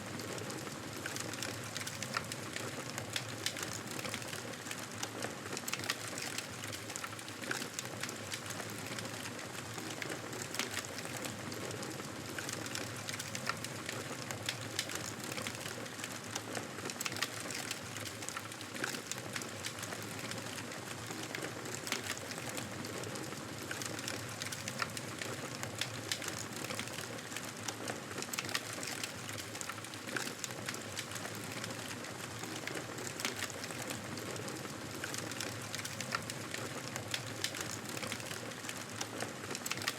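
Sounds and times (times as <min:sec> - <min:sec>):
steady hiss of flames: 0:00.0 - 0:39.9
fire crackling and popping: 0:00.1 - 0:39.9.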